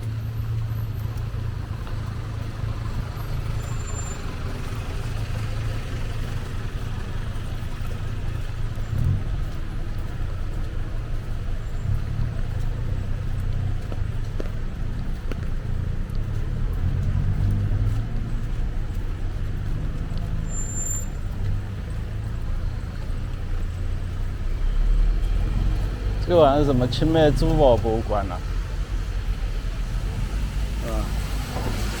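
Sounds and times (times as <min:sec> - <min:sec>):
passing vehicles rumble: 0:00.0 - 0:32.0
road noise hiss: 0:00.0 - 0:32.0.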